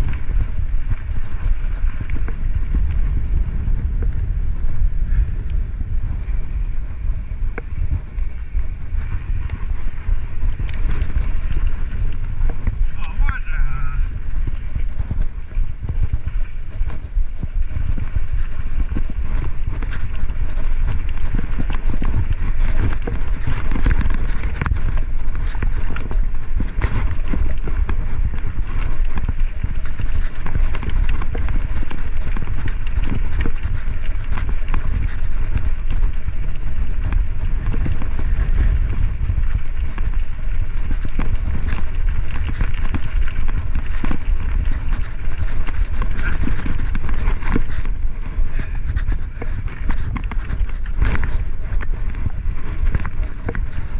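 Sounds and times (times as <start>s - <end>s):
tyre and road noise: 0.0s - 53.9s
wind buffeting microphone: 0.0s - 53.9s
bicycle rattling clicks: 7.4s - 13.2s, 14.0s - 53.9s.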